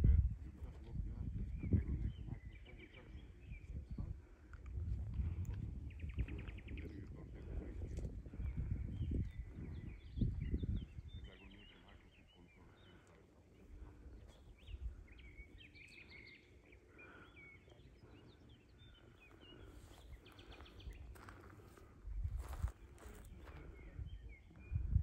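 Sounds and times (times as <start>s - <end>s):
small birds chirping: 0.4s - 25.0s.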